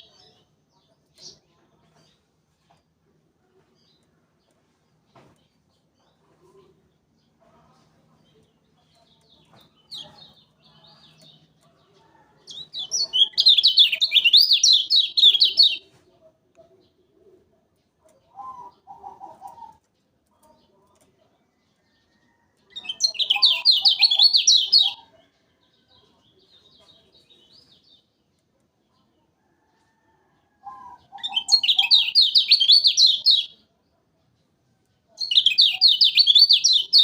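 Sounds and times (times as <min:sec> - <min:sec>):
low bird chatter: 0:00.0 - 0:37.0.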